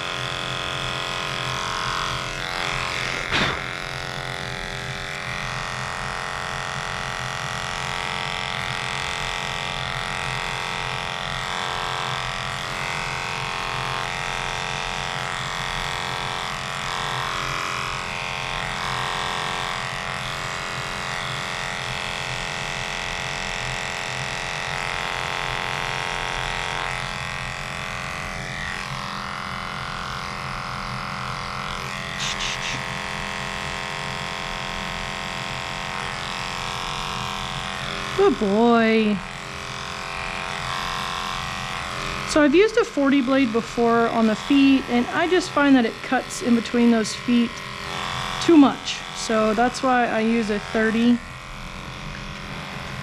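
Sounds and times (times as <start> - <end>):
electric clippers humming: 0.0 - 53.0.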